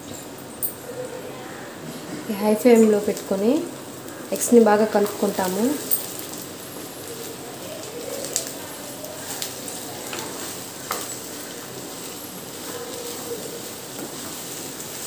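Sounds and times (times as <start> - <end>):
eggs and beans sizzling in oil: 0.2 - 15.0.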